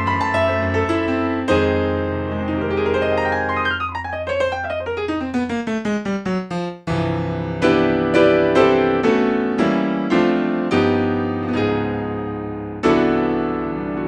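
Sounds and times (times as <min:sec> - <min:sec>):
jazz piano: 0:00.0 - 0:14.0.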